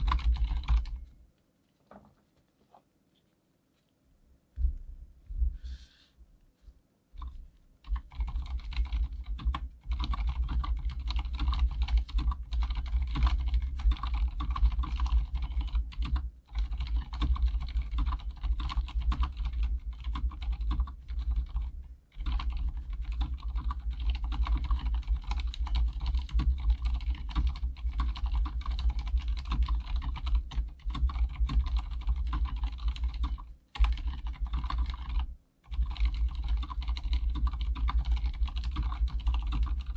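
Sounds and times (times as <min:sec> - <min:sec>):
mechanical keyboard typing: 0:00.0 - 0:01.1, 0:07.2 - 0:39.9.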